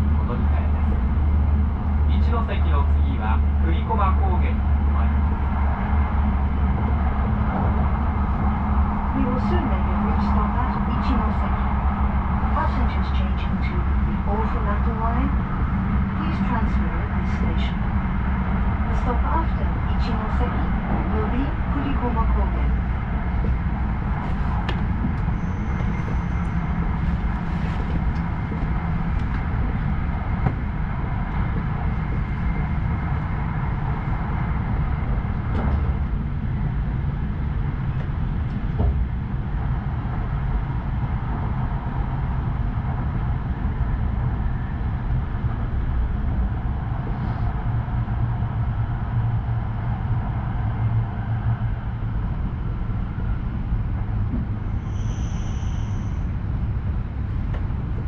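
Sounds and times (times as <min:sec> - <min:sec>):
train rumble and rolling noise: 0:00.0 - 0:58.0.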